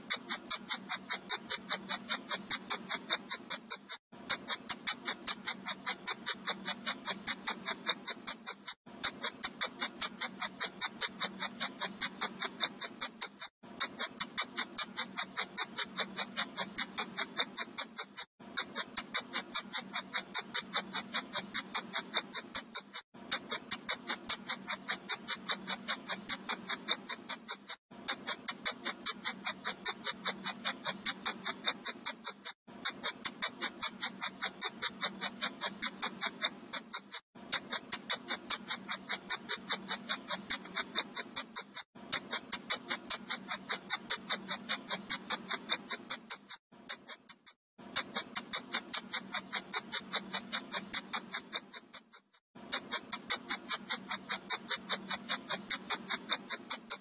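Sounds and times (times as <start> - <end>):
high-pitched clicking pulses: 0.0 - 57.0.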